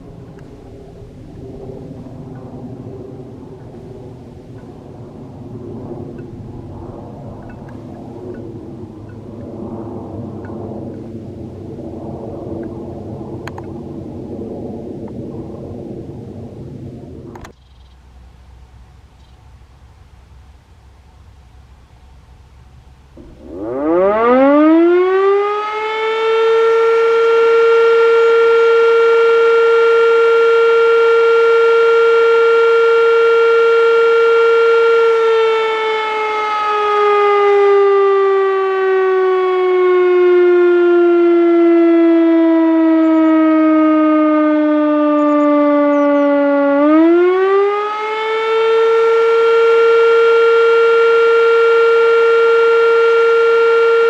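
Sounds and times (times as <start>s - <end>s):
air-raid siren wailing: 0.0s - 17.5s, 19.7s - 54.0s.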